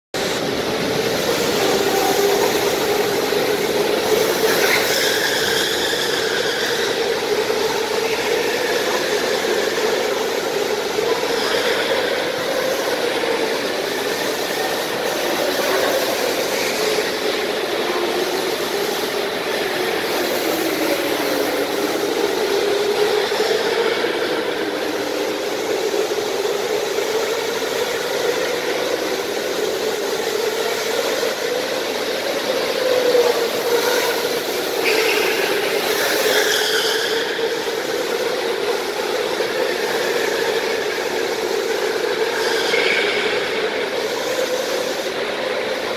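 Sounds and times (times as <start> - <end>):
go-kart motors droning: 0.2 - 45.9.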